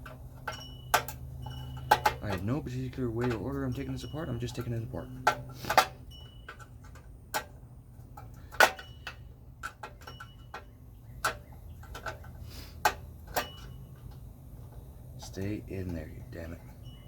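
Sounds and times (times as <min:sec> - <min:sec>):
clicks and knocks of hand tools: 0:00.0 - 0:17.0.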